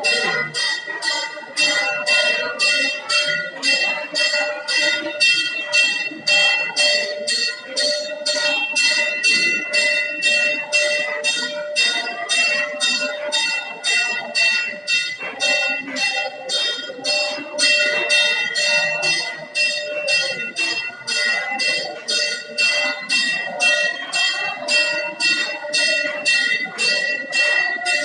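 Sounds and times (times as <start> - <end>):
temple bell ringing rapidly: 0.0 - 28.0.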